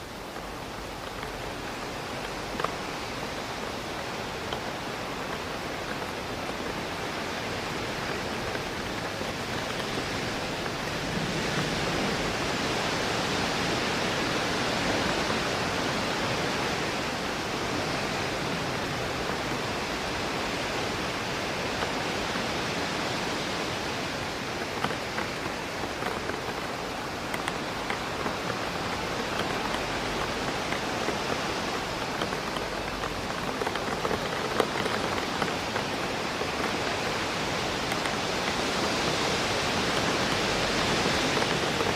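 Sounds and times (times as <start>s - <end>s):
rain hitting a window: 0.0s - 41.9s
taps of raindrops: 0.0s - 41.9s
wind through trees: 0.0s - 41.9s.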